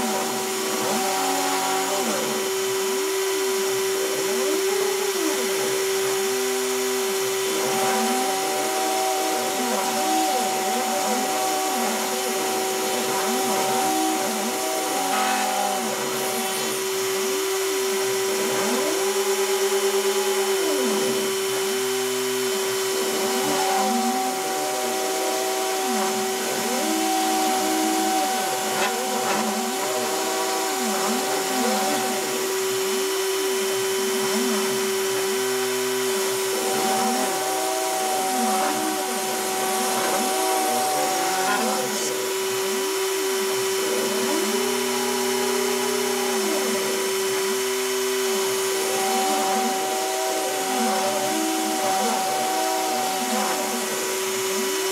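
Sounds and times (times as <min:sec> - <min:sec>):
spindle whine: 0:00.0 - 0:54.9
stepper motors humming: 0:00.0 - 0:54.9.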